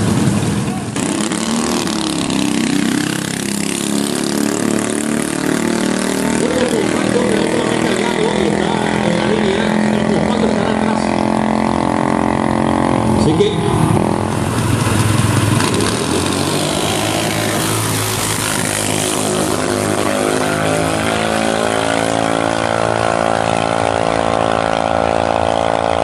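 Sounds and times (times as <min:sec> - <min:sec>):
dragster engine at full throttle: 0:00.0 - 0:26.0.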